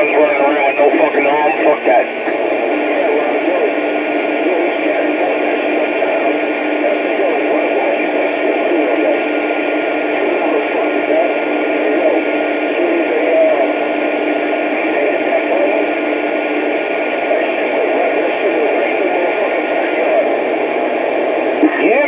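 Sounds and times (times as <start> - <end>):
faint garbled radio chatter: 0.0 - 22.0
radio receiver hiss: 0.0 - 22.0.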